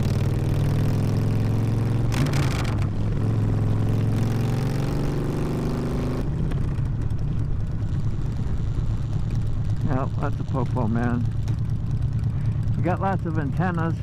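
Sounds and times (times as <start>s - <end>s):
motorcycle engine loud exhaust: 0.0s - 14.0s.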